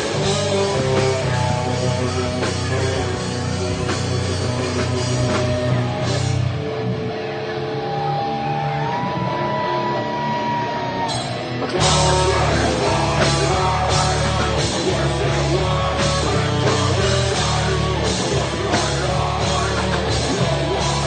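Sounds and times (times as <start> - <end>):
doom metal band playing live: 0.0 - 21.0.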